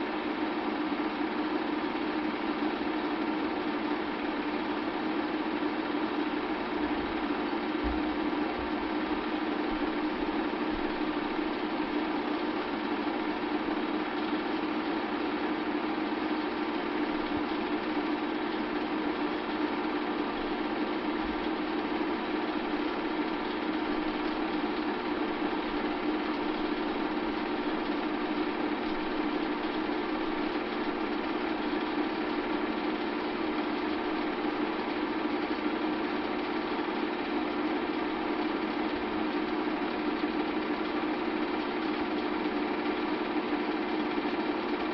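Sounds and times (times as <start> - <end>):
film projector whirring: 0.0 - 44.9.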